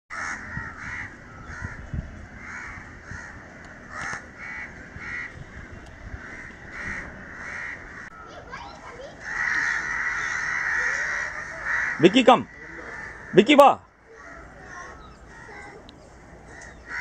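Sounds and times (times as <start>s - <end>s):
crows cawing: 0.1s - 17.0s.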